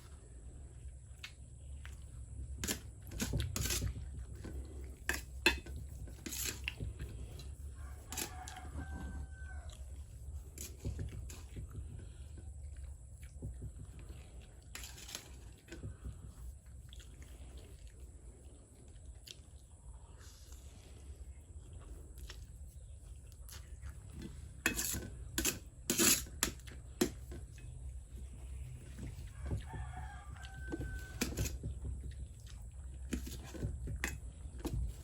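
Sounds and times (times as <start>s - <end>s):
chewing noodles: 0.0s - 24.6s, 26.6s - 35.0s.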